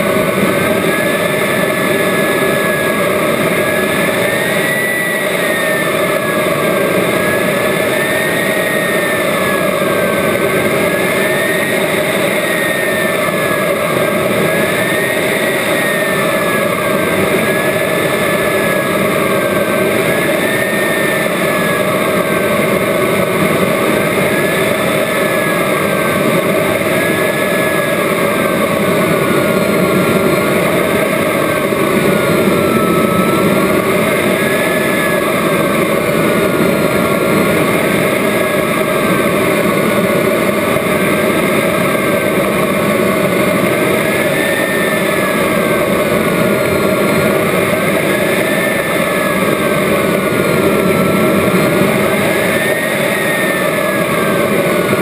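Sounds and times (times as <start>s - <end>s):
model jet engine running: 0.0s - 55.0s.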